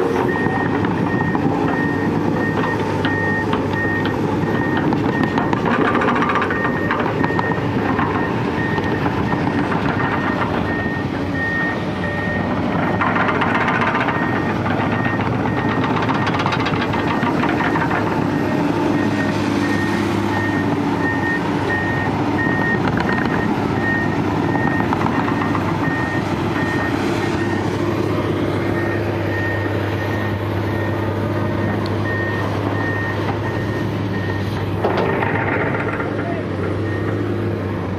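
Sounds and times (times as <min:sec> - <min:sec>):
backup alarm beeping: 0:00.0 - 0:35.3
excavator diesel engine: 0:00.0 - 0:37.9.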